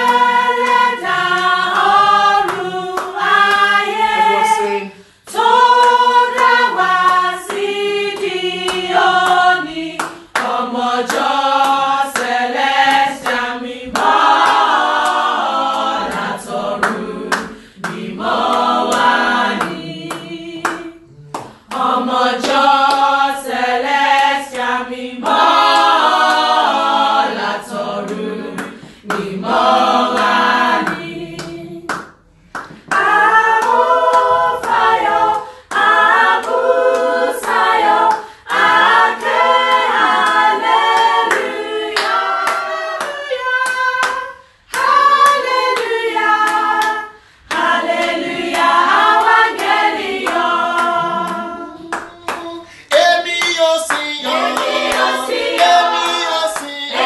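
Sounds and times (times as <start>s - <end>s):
choir singing a hymn: 0.0s - 32.2s, 32.8s - 57.0s.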